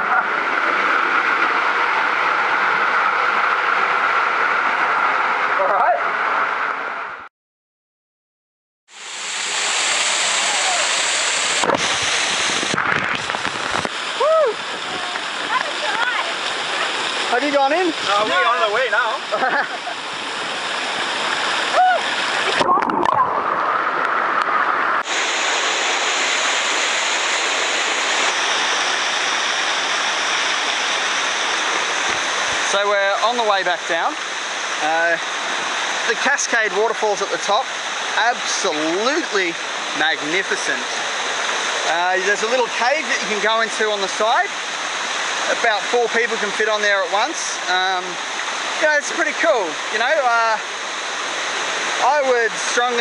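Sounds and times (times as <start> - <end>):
waterfall rushing: 0.0 - 7.1, 8.9 - 53.0.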